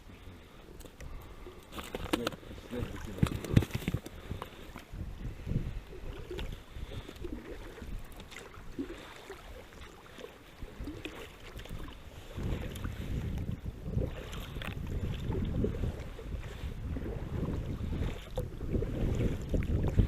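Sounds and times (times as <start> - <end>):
wind buffeting microphone: 2.0 - 9.6, 10.5 - 20.0.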